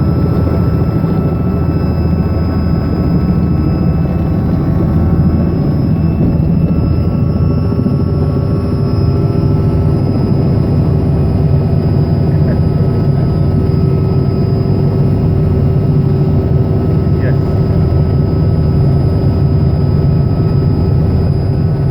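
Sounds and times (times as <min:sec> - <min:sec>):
helicopter engine and rotor rumble: 0:00.0 - 0:21.9
steady whining tones: 0:00.0 - 0:21.9.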